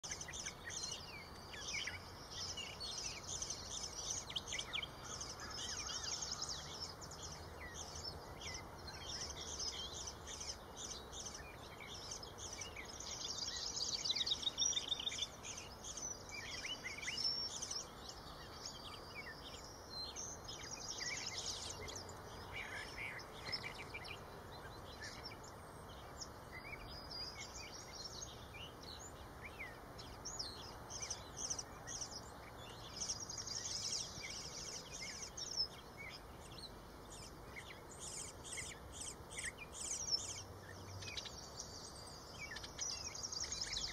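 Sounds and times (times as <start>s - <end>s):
fledglings begging chirps: 0.0s - 43.9s.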